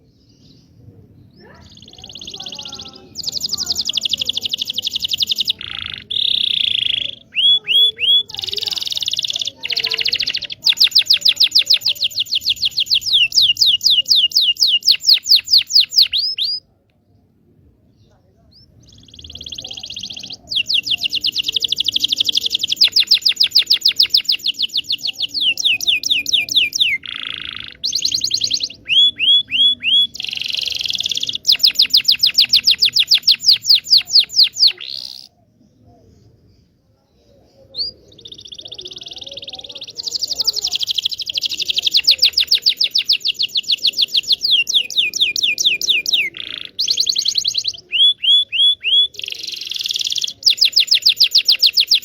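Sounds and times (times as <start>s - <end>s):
canary singing trills: 0.0s - 16.8s, 18.0s - 52.0s.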